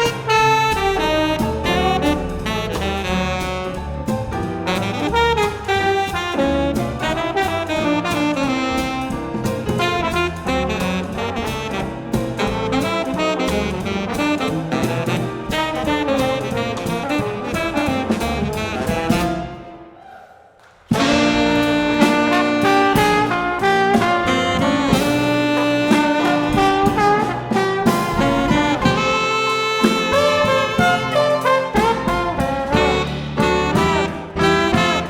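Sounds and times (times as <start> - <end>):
held horn notes: 0.0 - 19.7, 20.9 - 35.0
jazz band playing: 0.0 - 20.0, 20.9 - 35.0.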